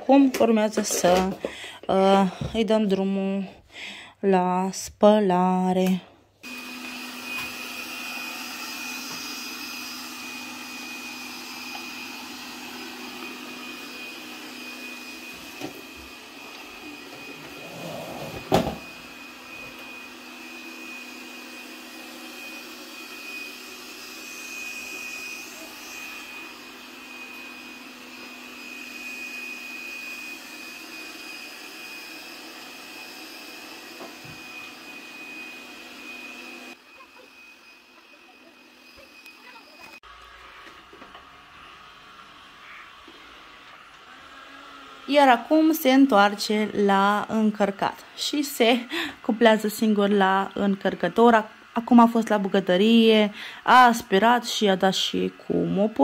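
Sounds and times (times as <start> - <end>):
robot vacuum motor hum: 6.5 - 53.1.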